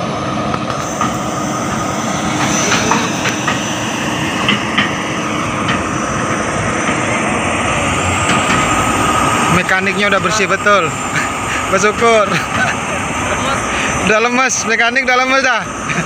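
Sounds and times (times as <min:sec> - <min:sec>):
diesel engine running: 0:00.0 - 0:16.0
faint steady whine: 0:00.0 - 0:16.0.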